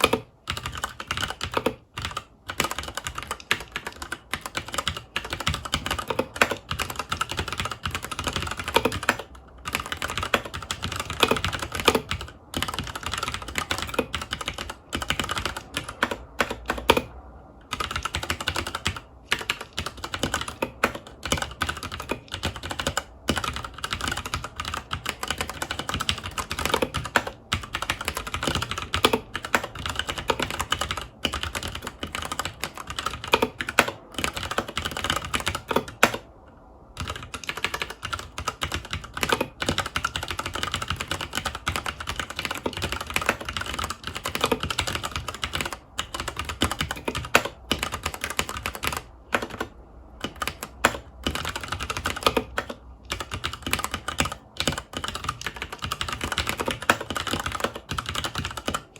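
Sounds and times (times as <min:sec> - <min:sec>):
mechanical keyboard typing: 0:00.0 - 0:58.9.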